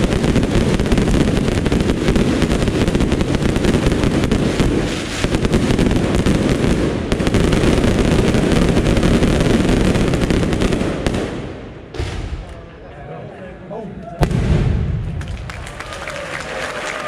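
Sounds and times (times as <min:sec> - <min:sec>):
fireworks bursting and crackling: 0:00.0 - 0:12.6, 0:14.2 - 0:17.0.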